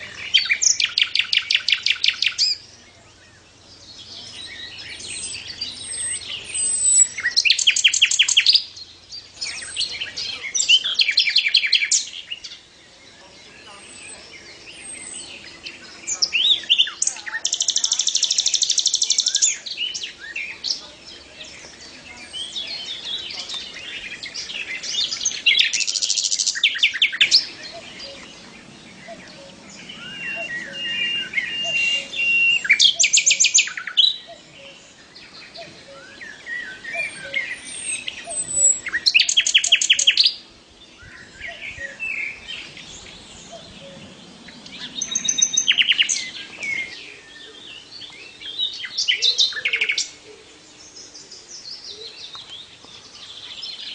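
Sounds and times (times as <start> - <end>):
bird singing chattering song: 0.0 - 53.9.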